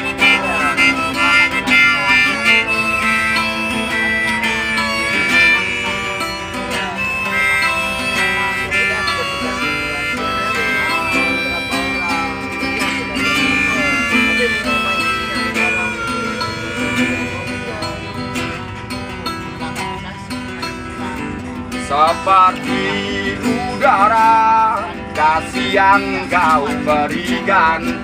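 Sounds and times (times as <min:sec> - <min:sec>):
acoustic guitar strumming: 0:00.0 - 0:28.0
bending guitar melody line: 0:00.0 - 0:28.0.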